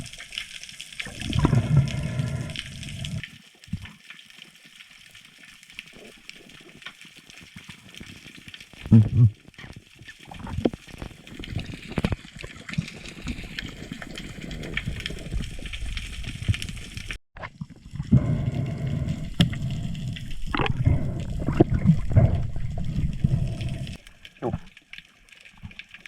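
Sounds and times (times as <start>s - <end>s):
water sloshing and gurgling: 0.0s - 4.1s, 5.1s - 26.0s.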